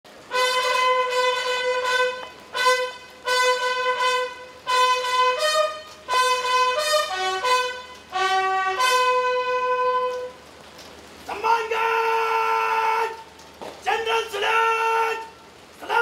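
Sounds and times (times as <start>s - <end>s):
bugle call: 0.3s - 10.4s, 11.3s - 16.0s.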